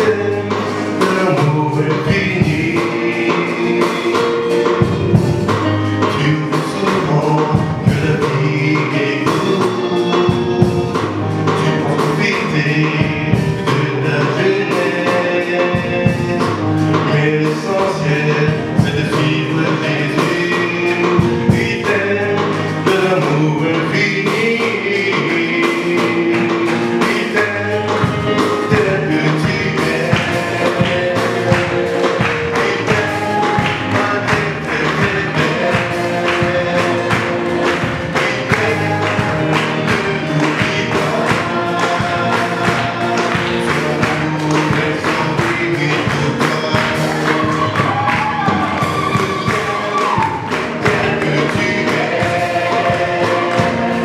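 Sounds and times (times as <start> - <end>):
instrumental accompaniment with beat: 0.0 - 54.0
man singing into microphone: 0.0 - 54.0.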